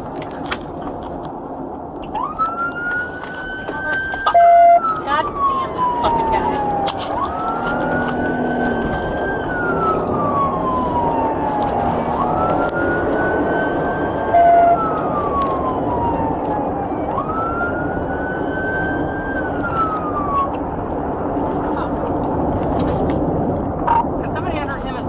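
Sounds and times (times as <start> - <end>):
car engine and road noise: 0.0 - 25.0
police siren wailing: 2.0 - 25.0.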